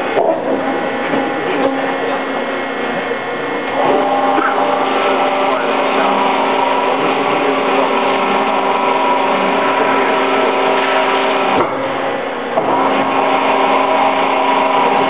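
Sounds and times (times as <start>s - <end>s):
bending rolls motor hum: 0.0s - 15.0s.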